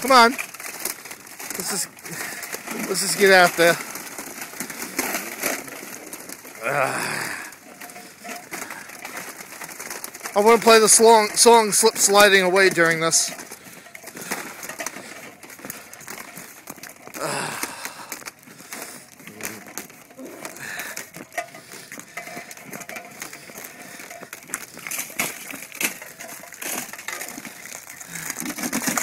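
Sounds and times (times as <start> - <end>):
footsteps cracking thin ice: 0.0 - 29.0.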